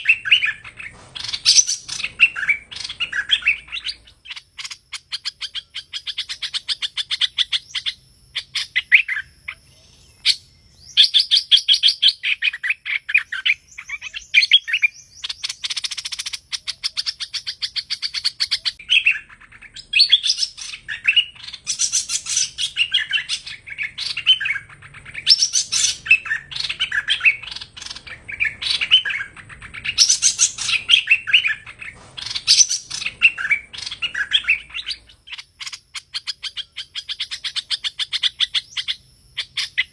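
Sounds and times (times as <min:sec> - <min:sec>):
bird song trills and chirps: 0:00.0 - 0:39.9.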